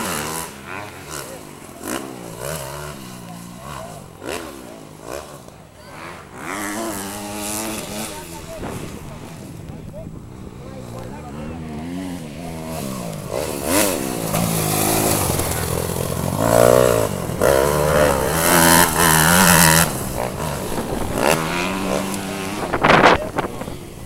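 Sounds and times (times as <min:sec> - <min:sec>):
motocross bikes revving and passing: 0:00.0 - 0:24.0.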